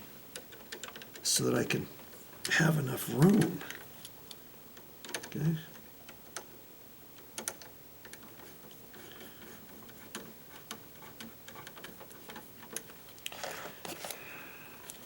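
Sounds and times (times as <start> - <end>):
wires and switch clicking and scraping: 0.3 - 1.4, 2.1 - 6.5, 7.2 - 14.2.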